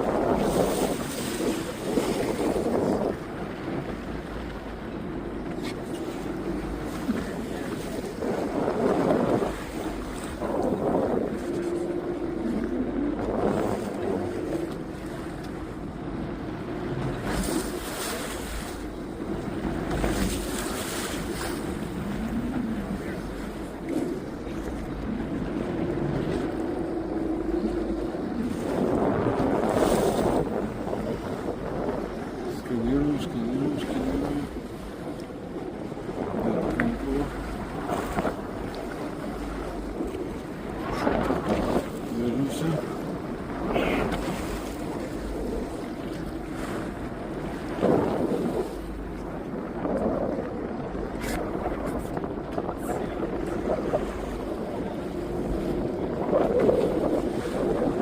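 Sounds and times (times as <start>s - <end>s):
boat engine running: 0.0s - 58.0s
rushing water: 0.0s - 58.0s
wind on microphone: 0.0s - 58.0s.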